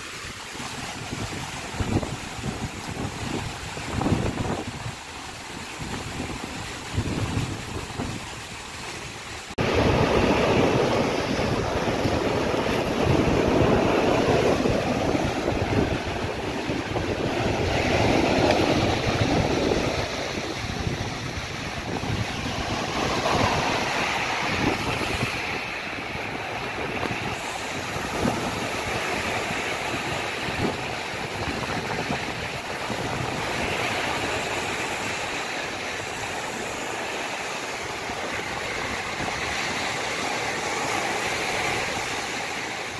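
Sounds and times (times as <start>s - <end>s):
surf breaking on pebbles: 0.0s - 42.9s
wind rumbling on microphone: 0.0s - 42.9s.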